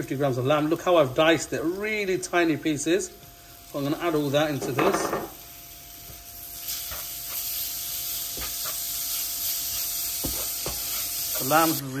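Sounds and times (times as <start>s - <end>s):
lamb sizzling in hot oil: 0.0s - 12.0s.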